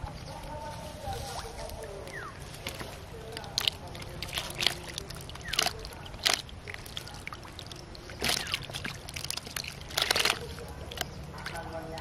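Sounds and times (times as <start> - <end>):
fish flapping and splashing: 0.0 - 12.0.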